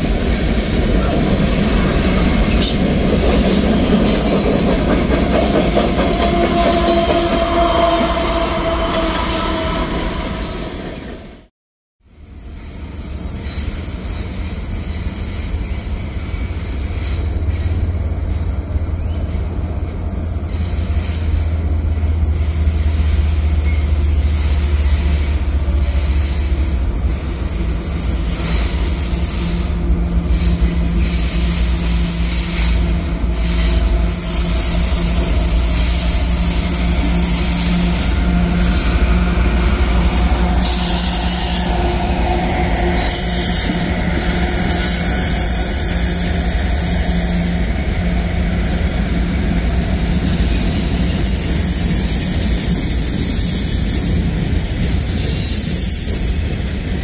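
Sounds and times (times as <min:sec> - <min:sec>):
diesel locomotives rumbling: 0:00.0 - 0:11.5, 0:12.1 - 0:57.0
freight cars wheel-on-rail noise: 0:00.0 - 0:57.0.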